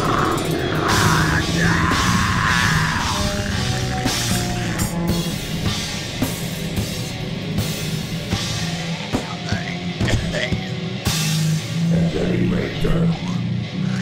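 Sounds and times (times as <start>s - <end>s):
pounding drums: 0.0s - 12.0s
distorted guitars: 0.0s - 14.0s.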